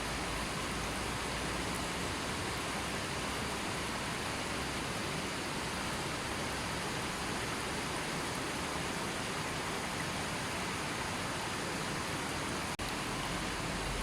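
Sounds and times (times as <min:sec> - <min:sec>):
river flowing: 0:00.0 - 0:14.0.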